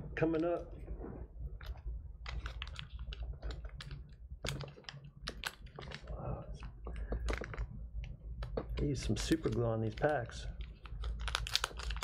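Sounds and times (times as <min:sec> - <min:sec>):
wrapper crinkling and tearing: 0:01.6 - 0:07.7, 0:08.4 - 0:12.0.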